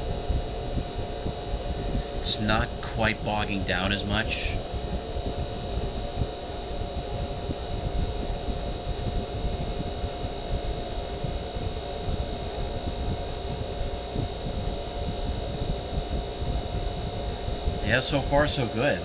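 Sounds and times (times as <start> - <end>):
air conditioner humming: 0.0 - 19.0
constant whine: 0.0 - 19.0.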